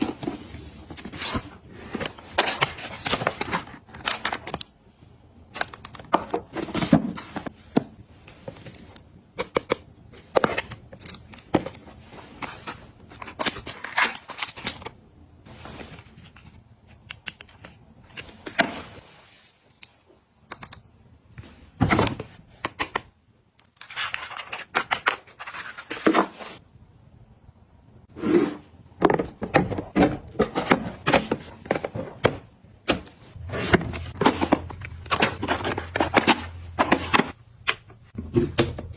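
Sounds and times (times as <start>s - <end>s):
packaging handled with clicks and rustles: 0.0s - 26.6s, 28.9s - 38.9s.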